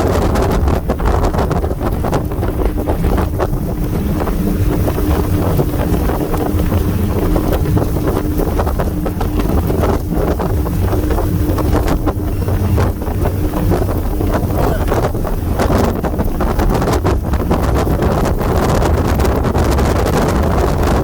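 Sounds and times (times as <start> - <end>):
outboard motors droning: 0.0 - 21.0
water rushing past hull: 0.0 - 21.0
wind buffeting microphone: 0.0 - 21.0.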